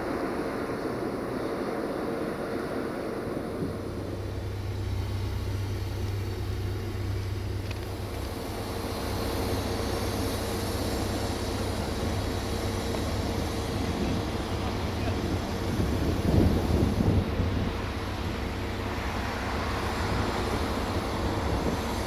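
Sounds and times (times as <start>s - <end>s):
diesel train engine hum: 0.0s - 22.0s
rumbling noise: 0.0s - 22.0s
steady higher tone: 0.0s - 22.0s.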